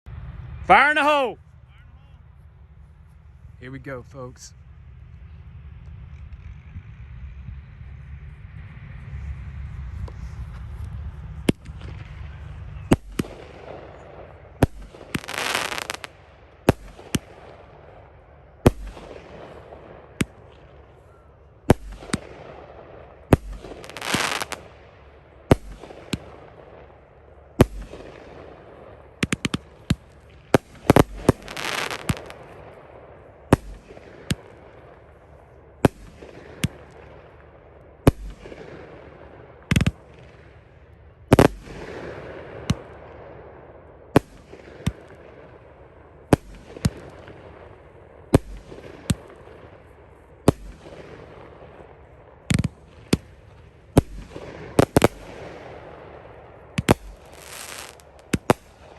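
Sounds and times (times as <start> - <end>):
fireworks crackling bursts: 0.4 - 1.4, 9.6 - 58.9
fireworks bangs: 9.9 - 58.9.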